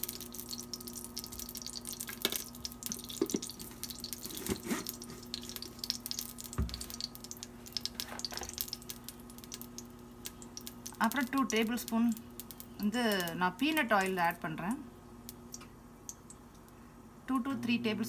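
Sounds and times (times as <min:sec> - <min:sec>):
ghee sizzling and crackling: 0:00.0 - 0:16.5.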